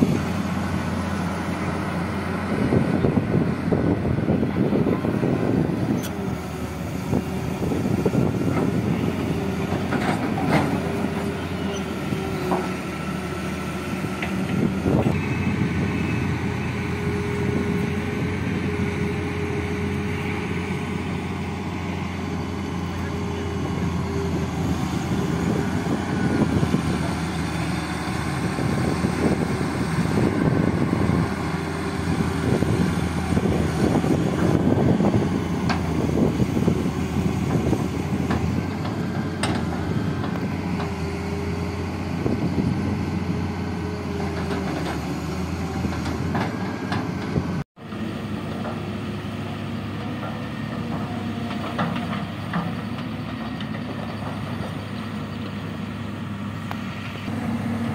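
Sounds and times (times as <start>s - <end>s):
distant machine engine hum: 0.0s - 57.9s
excavator diesel engine: 0.0s - 57.9s.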